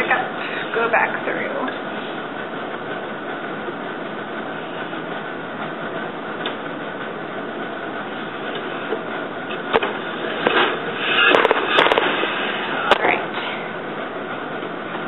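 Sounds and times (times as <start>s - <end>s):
loom shuttle clattering: 0.0s - 15.0s
steady rushing noise: 0.0s - 15.0s.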